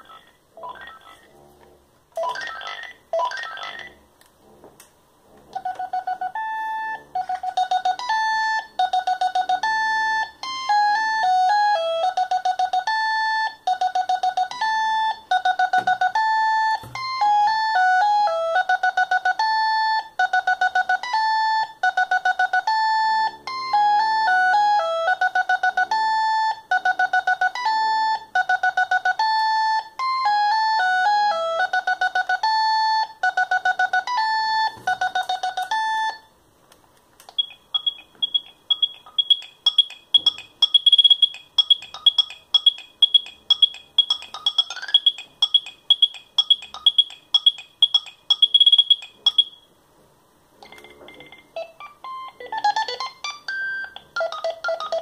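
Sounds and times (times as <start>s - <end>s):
phone ringtone beeping melody: 0.0s - 1.3s, 2.2s - 4.0s, 5.5s - 36.3s, 37.3s - 49.7s, 50.6s - 55.0s.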